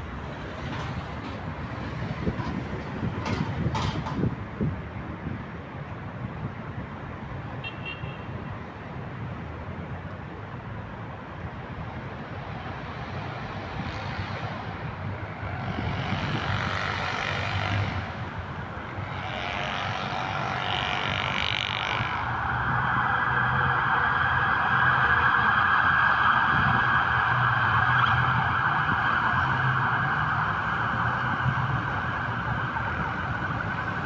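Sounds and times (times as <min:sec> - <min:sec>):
city street traffic rumble: 0:00.0 - 0:34.0.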